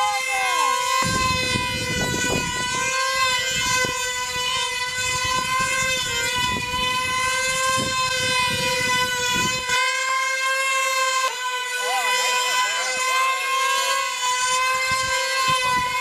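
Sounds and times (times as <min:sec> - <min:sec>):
model engines high-pitched whine: 0:00.0 - 0:16.0.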